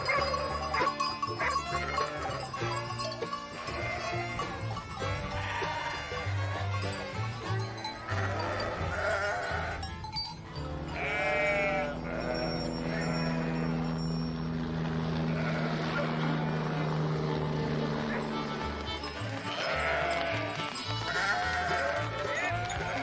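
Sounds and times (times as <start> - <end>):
sheep bleating: 0.0 - 9.9, 10.8 - 14.0, 14.7 - 23.0
background music with low notes: 0.0 - 15.3, 16.5 - 23.0.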